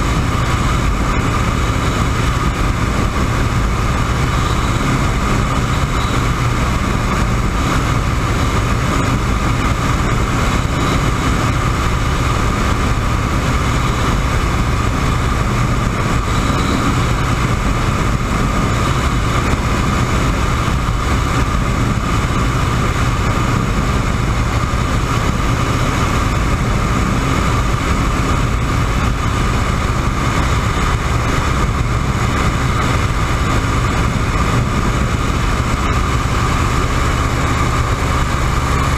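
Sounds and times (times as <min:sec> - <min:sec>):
propeller plane engine: 0:00.0 - 0:38.9.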